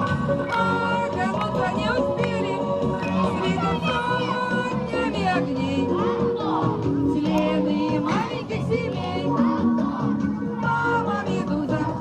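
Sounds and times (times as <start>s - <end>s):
loud background music: 0.0s - 12.0s.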